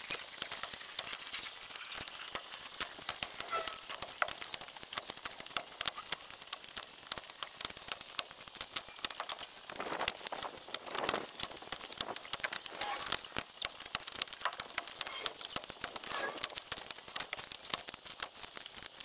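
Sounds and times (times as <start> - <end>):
sped-up clatter of logs stacked: 0.0 - 19.0.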